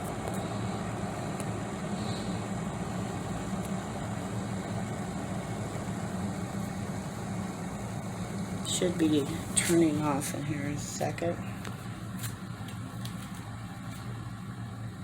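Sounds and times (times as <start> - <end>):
kettle water boiling: 0.0 - 15.0.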